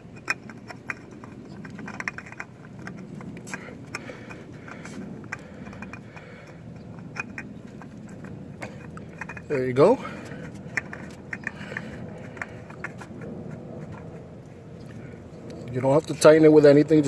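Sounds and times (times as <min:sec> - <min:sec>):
low background rumble: 0:00.0 - 0:17.0
oil filter clicking and scraping: 0:00.0 - 0:17.0.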